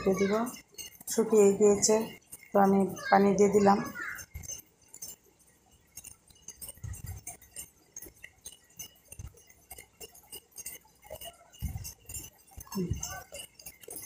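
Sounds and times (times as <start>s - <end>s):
utensil clinking against metal pot: 0.0s - 14.0s.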